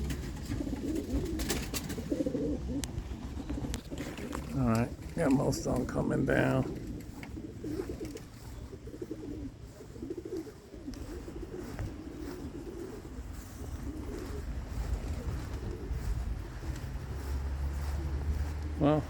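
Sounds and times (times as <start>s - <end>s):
pigeons cooing: 0.0s - 19.0s
wind rumble on microphone: 0.0s - 19.0s.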